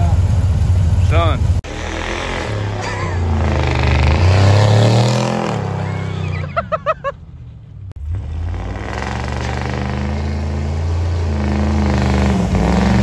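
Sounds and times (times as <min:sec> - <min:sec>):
truck engine under heavy throttle: 0:00.0 - 0:13.0.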